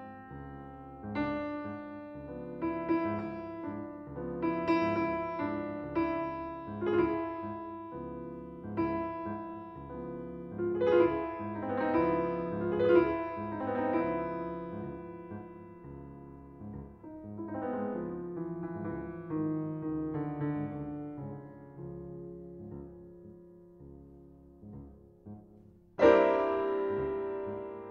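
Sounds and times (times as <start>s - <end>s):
piano music: 0.0s - 27.9s.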